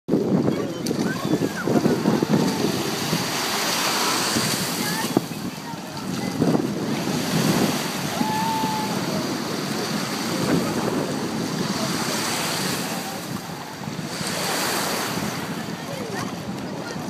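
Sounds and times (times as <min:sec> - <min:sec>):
ocean surf washing: 0:00.1 - 0:17.0
wind rumbling on microphone: 0:00.1 - 0:17.0.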